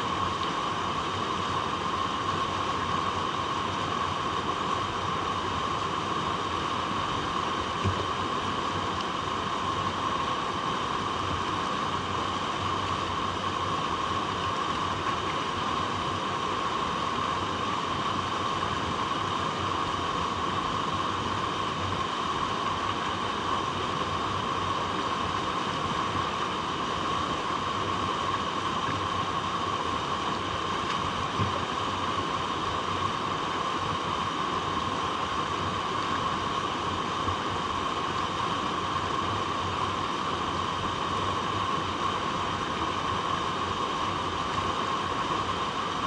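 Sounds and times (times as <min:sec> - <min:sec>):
water flowing over rocks: 0:00.0 - 0:46.0.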